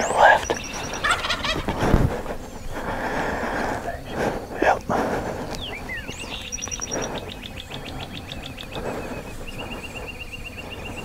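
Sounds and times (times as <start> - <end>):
songbirds high chirping trills: 0.0 - 11.0.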